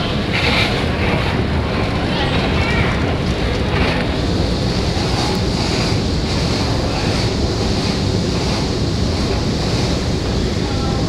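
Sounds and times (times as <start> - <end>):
air moving over microphone: 0.0 - 11.0
escalator rumbling: 0.0 - 11.0.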